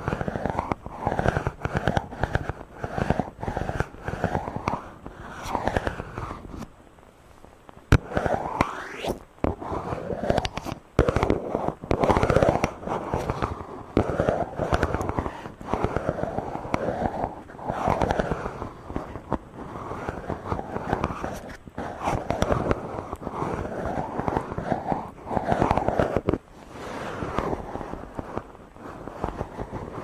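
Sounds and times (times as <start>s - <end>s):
rubbing over microphone: 0.0s - 30.0s.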